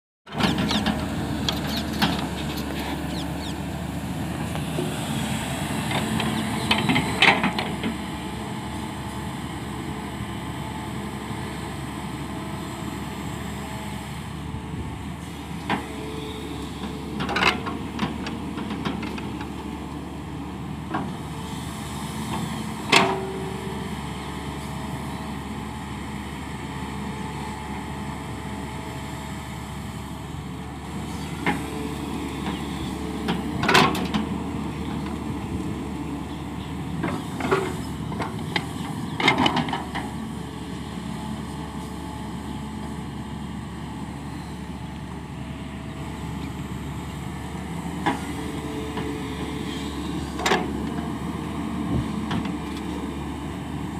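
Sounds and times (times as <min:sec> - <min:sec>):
excavator diesel engine running: 0:00.3 - 0:53.9.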